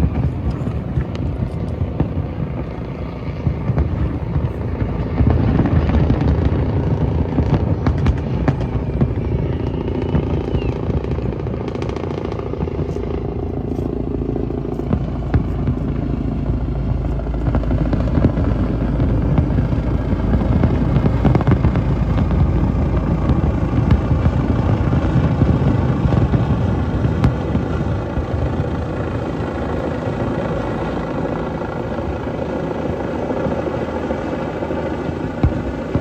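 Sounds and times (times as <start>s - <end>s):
city street noise: 0.0s - 36.0s
low engine rumble: 0.0s - 36.0s.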